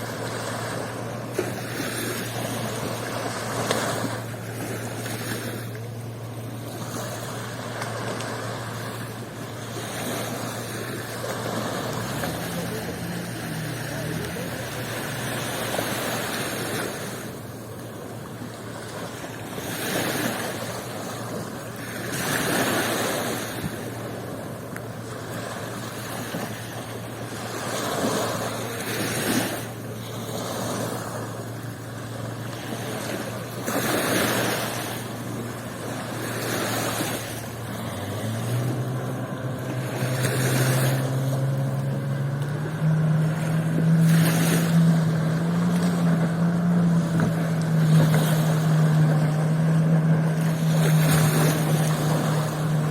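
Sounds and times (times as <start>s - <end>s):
low engine hum: 0.0s - 52.9s
sea waves breaking: 0.0s - 52.9s.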